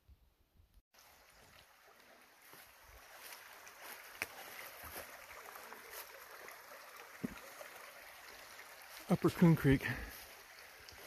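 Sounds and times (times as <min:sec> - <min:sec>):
creek trickling over rocks: 0:00.9 - 0:11.0.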